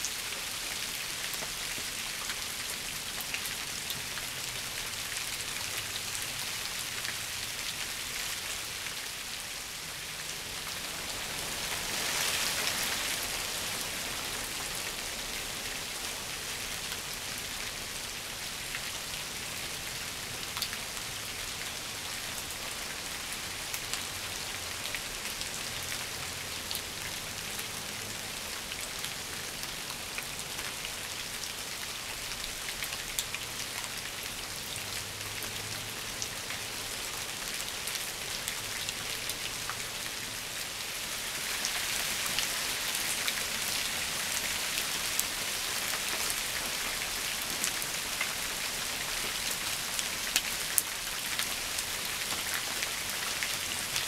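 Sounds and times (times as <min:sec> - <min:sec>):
rain on shrubs and leaves: 0:00.0 - 0:54.0.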